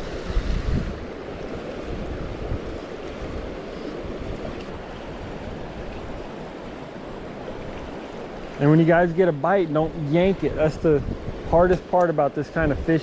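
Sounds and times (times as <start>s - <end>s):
wind buffeting microphone: 0.0s - 11.9s, 12.5s - 13.0s
river current rushing: 0.0s - 13.0s.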